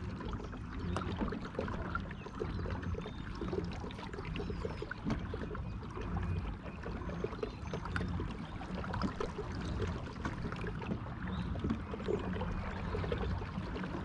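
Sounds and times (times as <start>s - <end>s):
water churning along hull: 0.0s - 14.0s.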